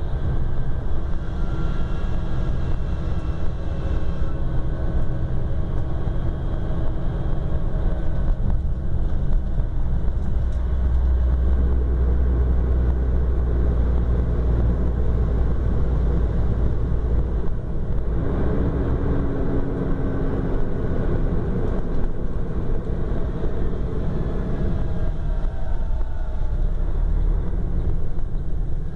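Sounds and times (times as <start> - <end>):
bus diesel engine drone: 0.0 - 28.9
road noise: 0.0 - 28.9.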